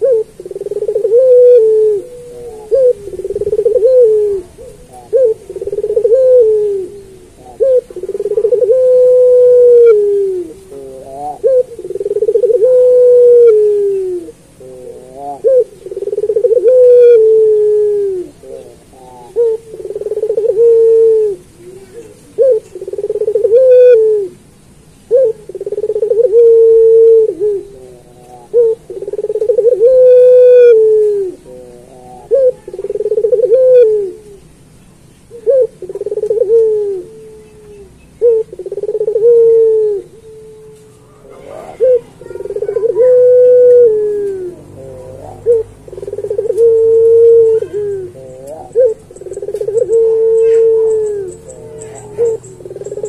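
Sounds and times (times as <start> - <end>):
dove cooing: 0.0 - 34.6, 35.3 - 53.0.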